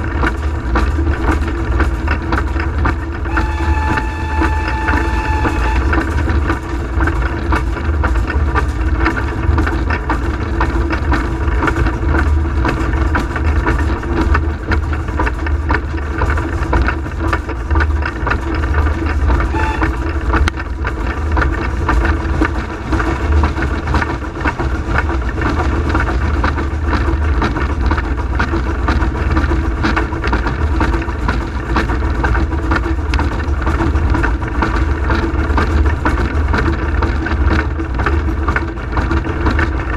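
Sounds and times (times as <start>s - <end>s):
steam locomotive running: 0.0s - 39.9s.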